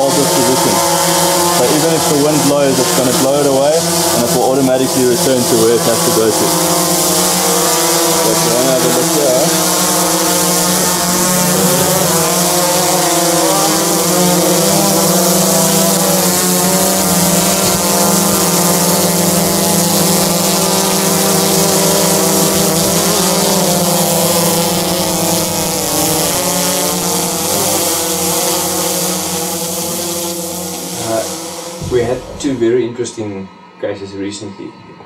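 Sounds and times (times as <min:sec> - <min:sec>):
drone motors and propellers buzzing: 0:00.0 - 0:33.6.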